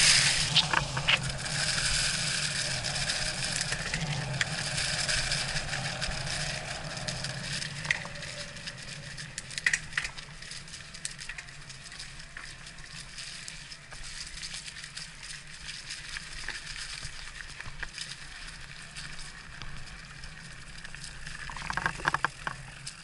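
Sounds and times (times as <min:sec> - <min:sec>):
tyres rolling on dirt trail: 0:00.0 - 0:23.0.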